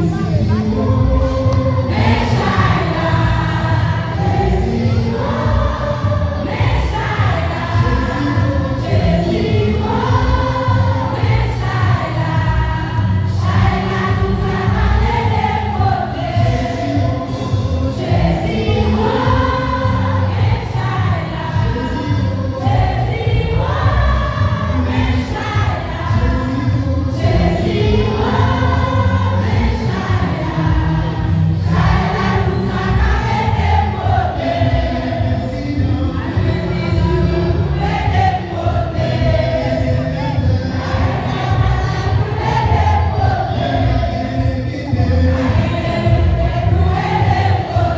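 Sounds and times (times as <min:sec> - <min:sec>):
choir singing a hymn: 0:00.0 - 0:47.9
heavy steady bass: 0:00.0 - 0:47.9.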